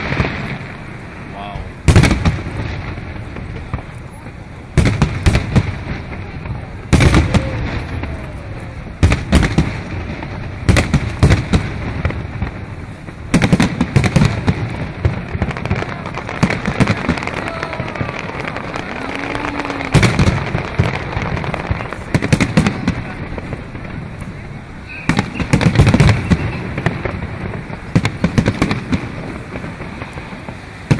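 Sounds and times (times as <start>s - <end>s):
firework popping: 0.0s - 30.9s
quick firework bangs: 4.7s - 24.1s, 24.9s - 30.9s.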